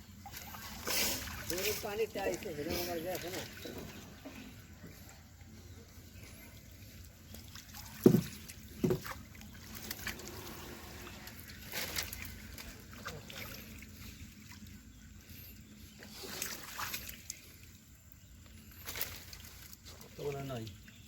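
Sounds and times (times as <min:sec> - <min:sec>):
water sloshing and trickling: 0:00.0 - 0:21.0.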